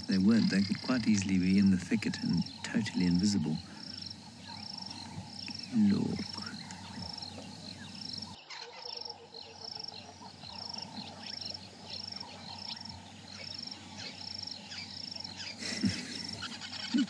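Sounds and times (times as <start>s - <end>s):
faint insect calls: 0.0s - 17.0s
high insect chirp: 0.0s - 17.0s.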